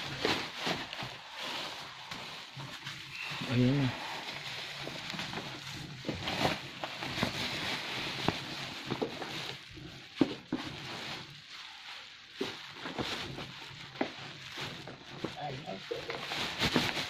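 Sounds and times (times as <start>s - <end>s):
bubble wrap crinkling and snapping: 0.0s - 17.0s.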